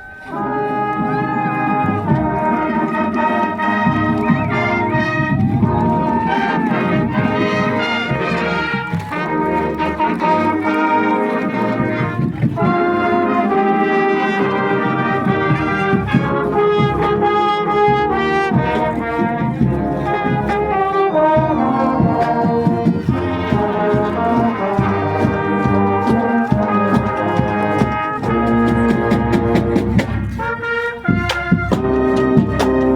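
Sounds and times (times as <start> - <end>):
marching band with brass: 0.0 - 32.9.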